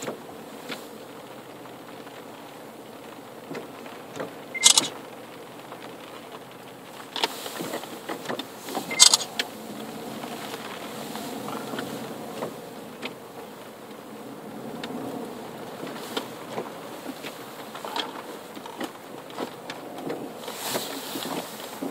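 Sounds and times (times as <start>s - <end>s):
car engine and road hum: 0.0s - 21.9s.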